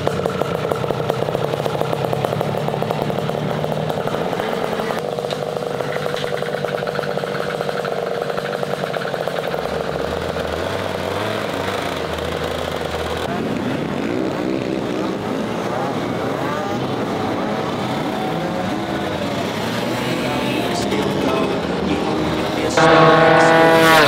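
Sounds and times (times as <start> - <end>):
two-stroke scooter engine running: 0.0 - 24.0.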